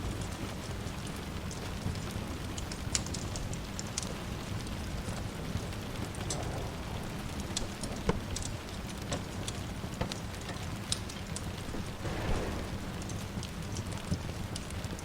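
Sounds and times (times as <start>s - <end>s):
steady rain: 0.0s - 15.0s
wood fire crackling and popping: 0.0s - 15.0s.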